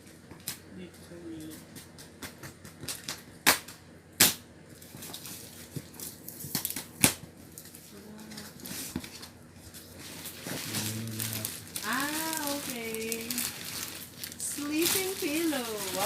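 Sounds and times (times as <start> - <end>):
wrapping paper tearing and crinkling: 2.8 - 16.0.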